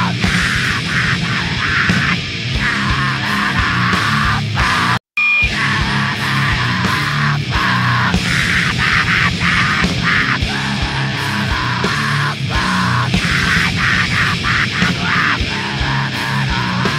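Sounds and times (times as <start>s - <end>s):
heavy rock music: 0.0s - 16.9s.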